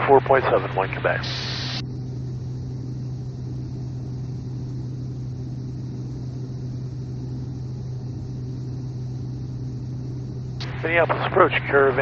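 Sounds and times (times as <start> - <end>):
turboprop aircraft cabin drone: 0.0 - 12.0.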